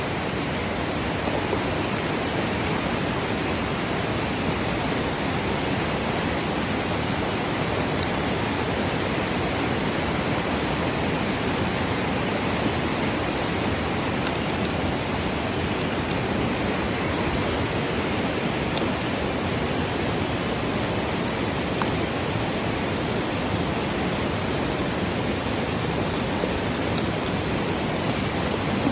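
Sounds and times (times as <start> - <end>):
steady rushing noise: 0.0 - 28.9.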